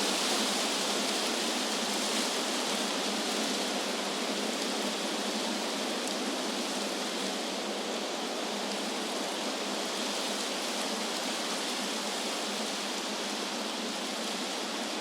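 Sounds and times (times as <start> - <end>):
wind rushing through leaves: 0.0 - 15.0.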